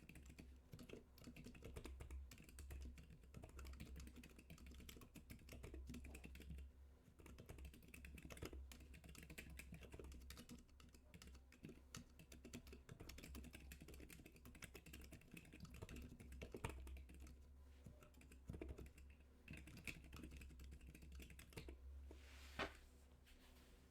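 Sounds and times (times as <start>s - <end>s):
quiet keyboard typing: 0.0s - 21.9s.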